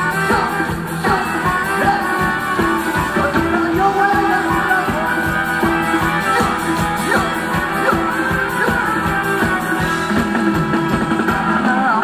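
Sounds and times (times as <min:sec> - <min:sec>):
live band playing dance song: 0:00.0 - 0:12.0
quick drum beat: 0:00.0 - 0:12.0.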